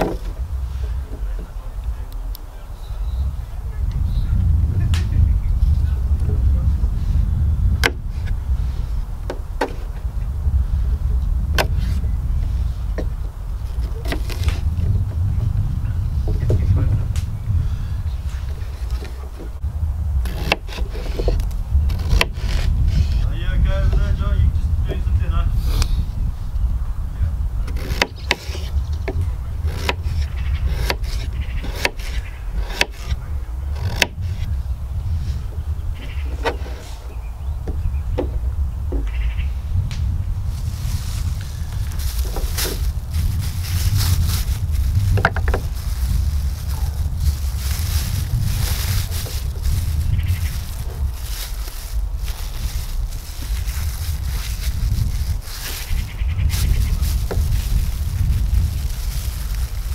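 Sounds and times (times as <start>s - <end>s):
low rumble: 0.0s - 28.0s, 28.6s - 59.9s.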